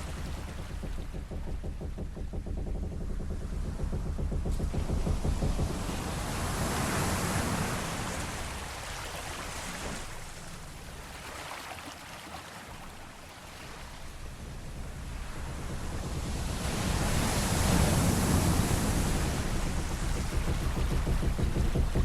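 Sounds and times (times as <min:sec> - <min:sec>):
waves washing against hull: 0:00.0 - 0:22.0.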